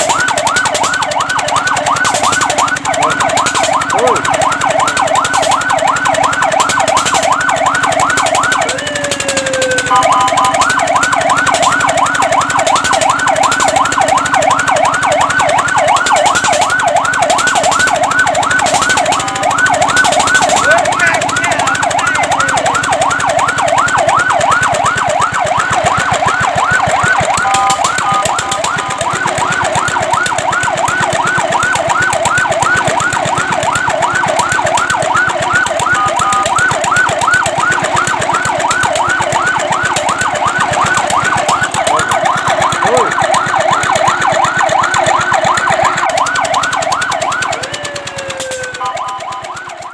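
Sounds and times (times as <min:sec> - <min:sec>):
fire truck siren yelping: 0:00.0 - 0:49.9
steady two-note siren tone: 0:00.0 - 0:49.9.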